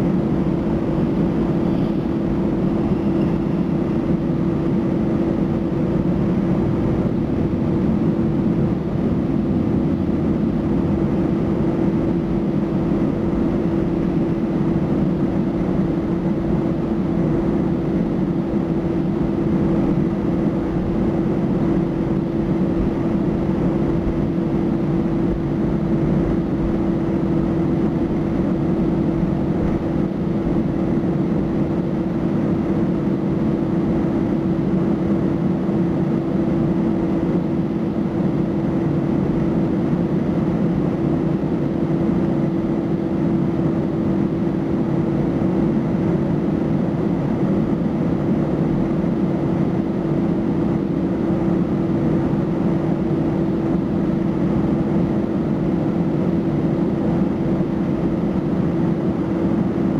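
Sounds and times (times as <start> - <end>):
air conditioning: 0.0 - 59.9
aircraft engines humming: 0.0 - 59.9.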